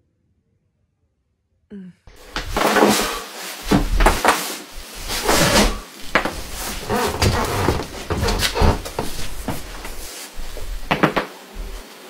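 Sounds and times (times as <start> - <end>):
back cracking: 2.1 - 11.8
clothing rustling: 2.1 - 12.0.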